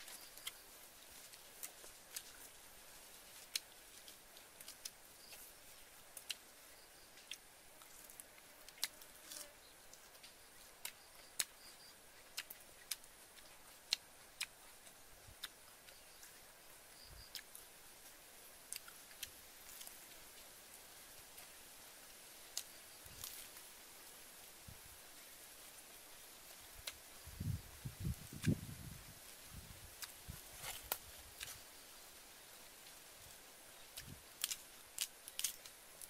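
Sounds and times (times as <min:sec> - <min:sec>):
faint steady hiss: 0:00.0 - 0:36.0.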